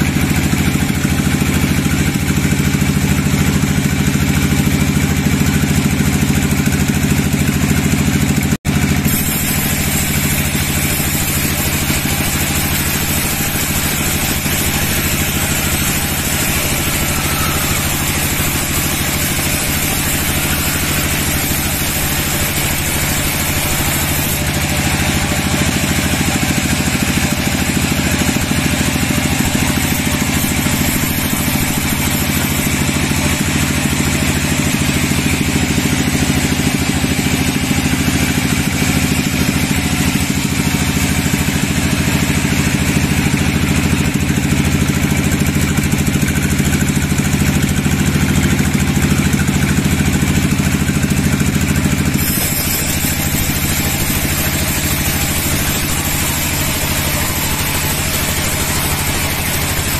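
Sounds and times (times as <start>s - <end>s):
band saw cutting wood: 0.0s - 47.2s, 51.0s - 59.9s.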